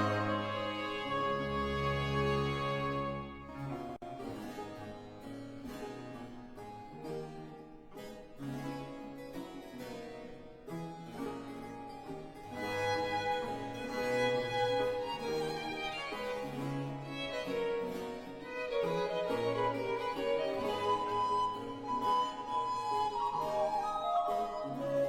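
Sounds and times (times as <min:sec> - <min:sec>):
baroque ensemble music: 0:00.0 - 0:25.0.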